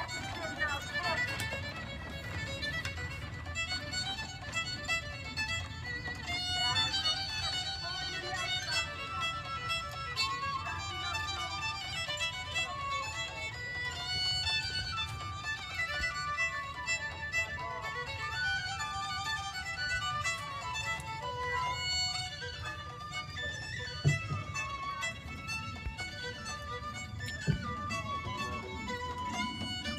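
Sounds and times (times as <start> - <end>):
violin melody: 0.0 - 29.9.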